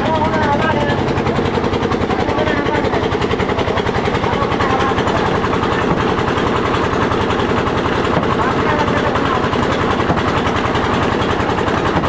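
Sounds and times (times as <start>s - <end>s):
oil expeller engine chugging: 0.0s - 12.0s.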